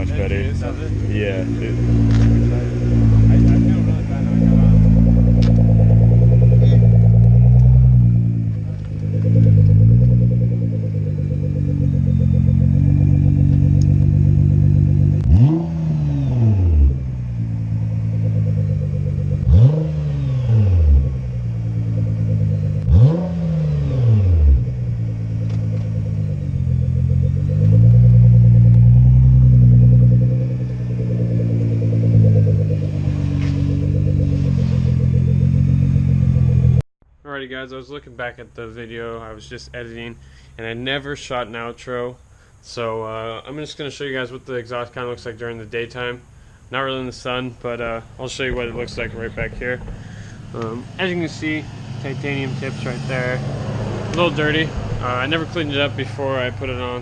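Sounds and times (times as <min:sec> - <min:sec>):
car engine revving: 0:00.0 - 0:36.8, 0:47.1 - 0:57.0.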